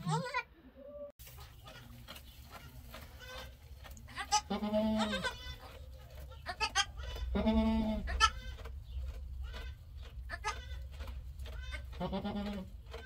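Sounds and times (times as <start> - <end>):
goat bleating: 0.0 - 0.5, 1.6 - 8.7, 9.4 - 13.0.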